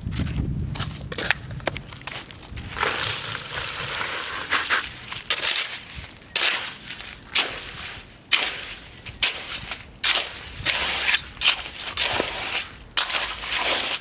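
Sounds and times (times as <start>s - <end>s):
gravel crunching and scraping: 0.0s - 14.0s.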